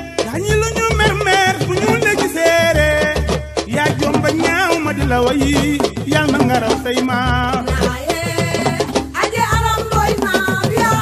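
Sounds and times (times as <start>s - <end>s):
upbeat latin dance music: 0.0s - 11.0s.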